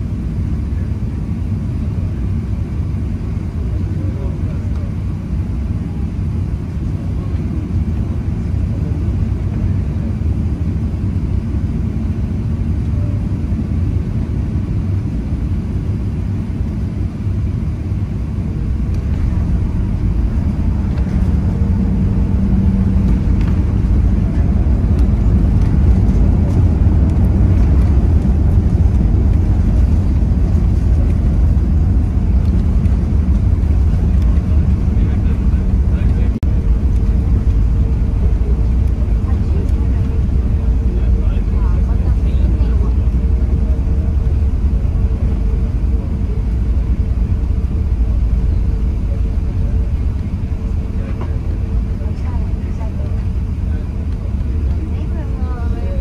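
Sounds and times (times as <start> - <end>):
airliner cabin low rumble: 0.0 - 56.0.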